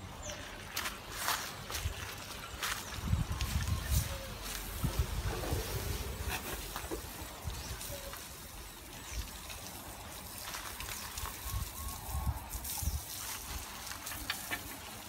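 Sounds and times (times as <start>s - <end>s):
hose water spraying and splashing: 0.2s - 15.0s.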